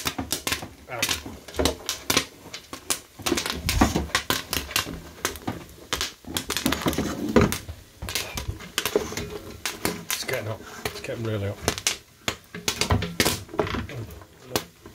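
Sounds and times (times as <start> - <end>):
popcorn rustling and crunching: 0.0 - 14.9.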